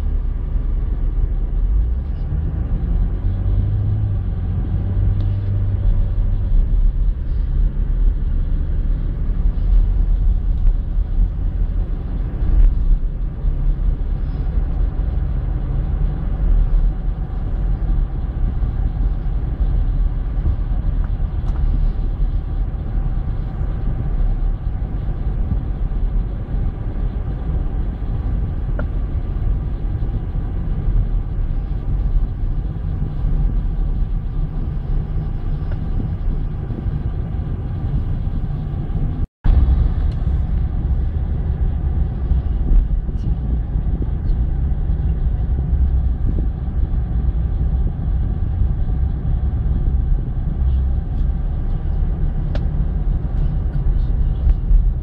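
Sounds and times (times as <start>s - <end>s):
car cabin engine and road rumble: 0.0s - 55.0s.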